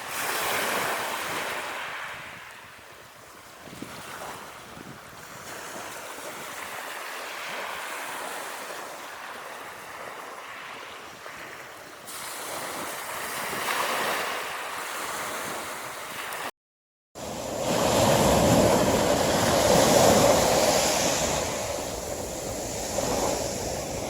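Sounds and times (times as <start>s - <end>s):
sea waves washing on shore: 0.0s - 16.5s, 17.2s - 24.0s.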